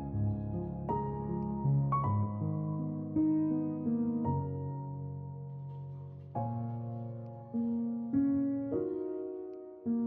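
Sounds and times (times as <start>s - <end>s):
slow keyboard background music: 0.0s - 10.0s.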